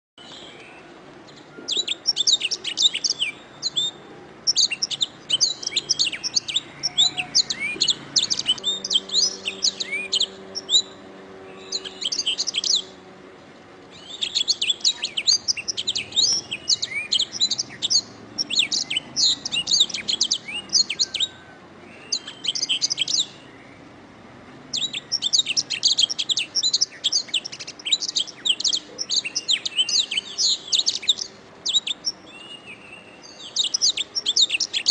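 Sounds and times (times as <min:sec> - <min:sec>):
canary singing trills: 0:00.2 - 0:13.1, 0:13.9 - 0:24.0, 0:24.7 - 0:34.9.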